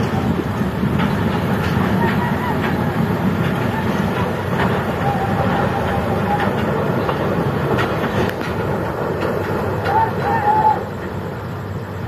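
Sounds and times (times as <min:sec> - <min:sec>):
diesel truck engines rumbling: 0:00.0 - 0:12.0.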